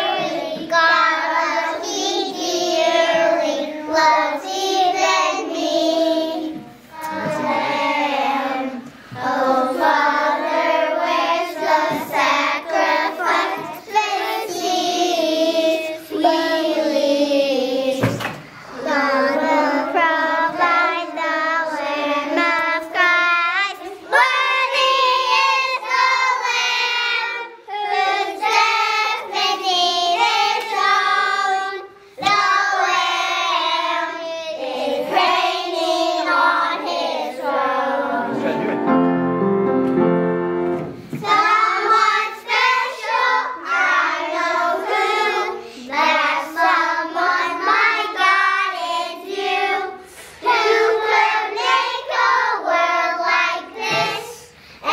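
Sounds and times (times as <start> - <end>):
children's choir singing: 0.0 - 54.9.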